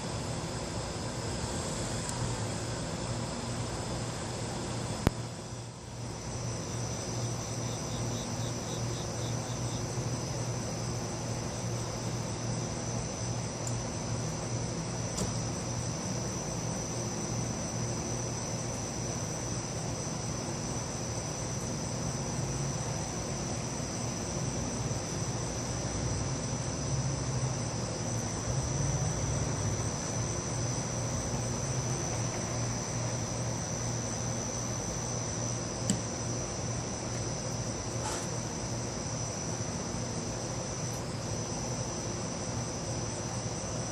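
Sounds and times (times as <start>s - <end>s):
crickets chirping: 0.0s - 43.9s
insect rapid pulses: 0.0s - 43.9s
steady low hum: 0.0s - 43.9s.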